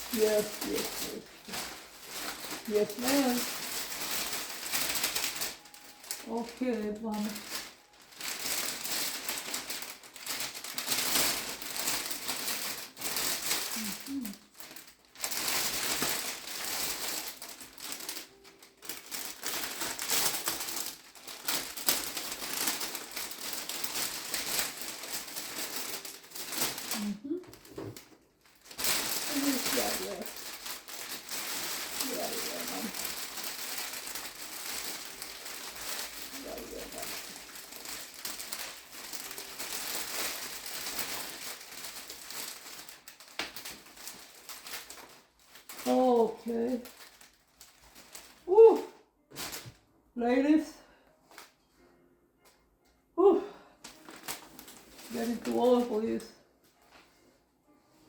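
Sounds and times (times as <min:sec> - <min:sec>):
wrapping crinkling and rustling: 0:00.0 - 0:52.0, 0:53.2 - 0:58.0.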